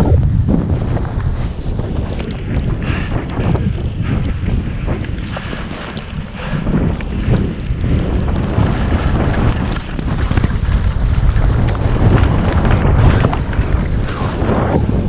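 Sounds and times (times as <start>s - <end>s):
wind buffeting microphone: 0.0s - 15.0s
skis scraping over snow: 0.5s - 15.0s.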